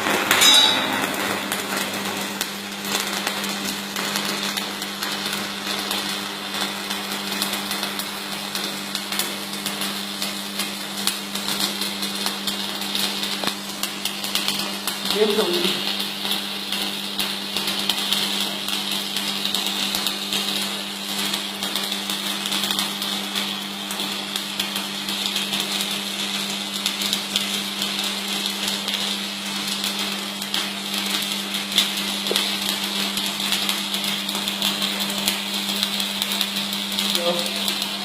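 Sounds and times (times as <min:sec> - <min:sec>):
welding arc crackling: 0:00.0 - 0:38.0.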